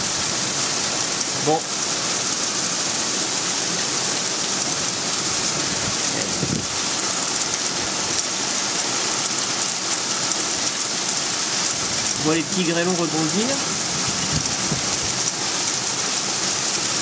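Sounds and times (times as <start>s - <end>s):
heavy rain and hail: 0.0s - 17.0s.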